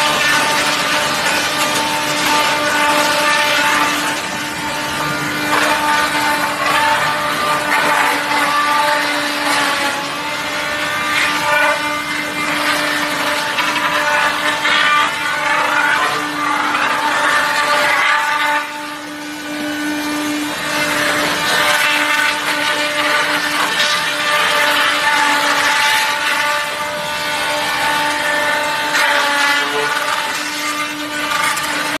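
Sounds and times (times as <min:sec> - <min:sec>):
log crusher droning hum: 0:00.0 - 0:32.0.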